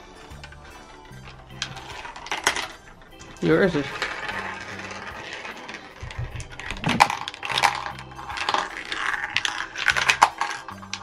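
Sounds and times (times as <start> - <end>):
marbles rattling down plastic track: 0.0 - 11.0.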